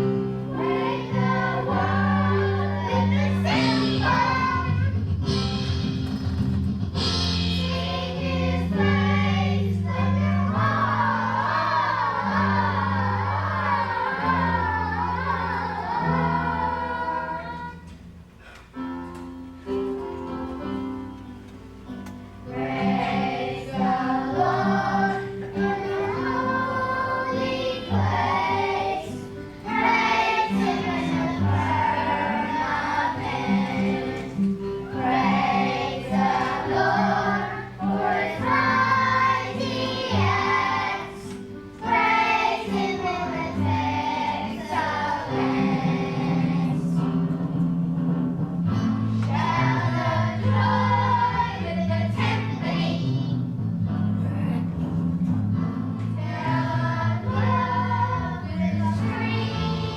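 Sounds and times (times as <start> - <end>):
children's choir singing: 0.0 - 5.0, 7.4 - 18.5, 21.9 - 48.0, 48.6 - 59.9
instrumental accompaniment: 0.0 - 59.9.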